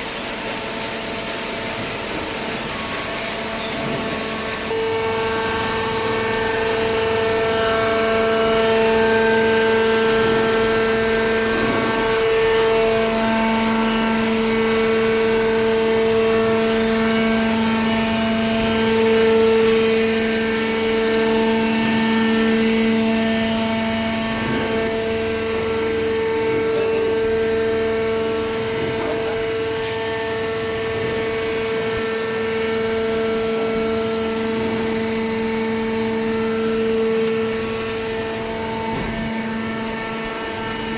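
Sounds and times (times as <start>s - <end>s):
hydraulic baler machine drone: 0.0s - 40.9s.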